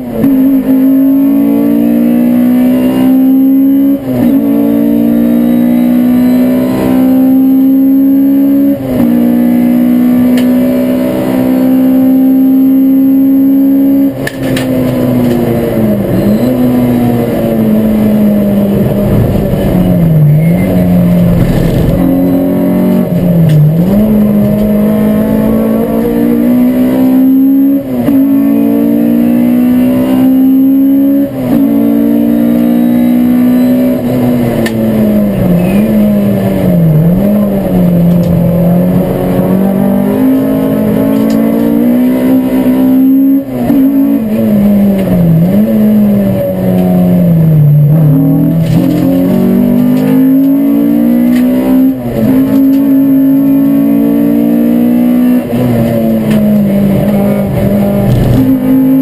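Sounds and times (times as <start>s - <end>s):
race car engine: 0.0s - 59.0s.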